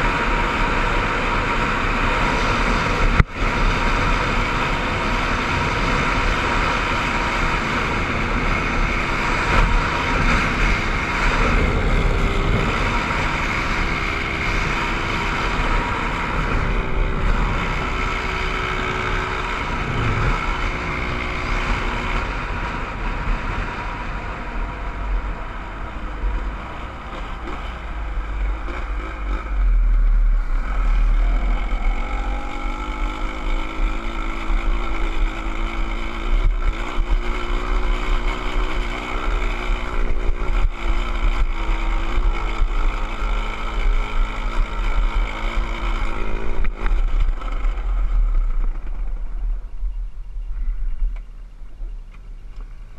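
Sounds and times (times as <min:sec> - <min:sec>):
motorcycle engine running: 0:00.0 - 0:52.9
wind rumbling on microphone: 0:00.0 - 0:52.9.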